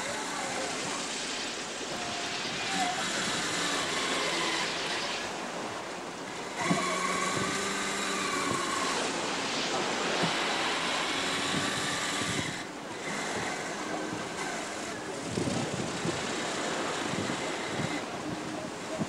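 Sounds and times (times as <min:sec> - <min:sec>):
water rushing past hull: 0:00.0 - 0:19.0
wind buffeting microphone: 0:01.8 - 0:19.0.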